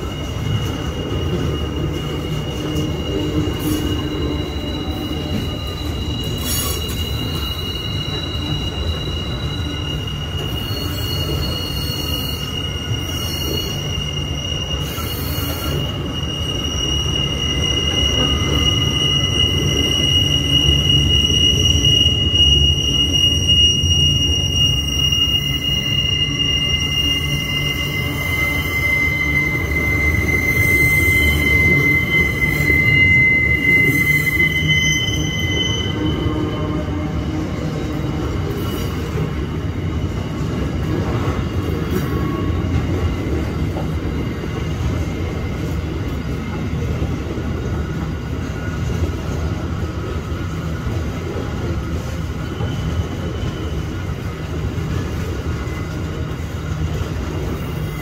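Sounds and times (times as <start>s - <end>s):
high-pitched wheel squeal: 0.0s - 58.0s
train wheels rumbling on rail: 0.0s - 58.0s.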